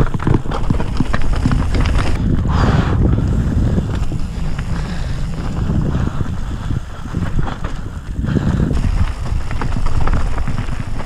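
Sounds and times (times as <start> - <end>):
bike rattling over rough ground: 0.0 - 11.0
wind buffeting microphone: 0.0 - 11.0.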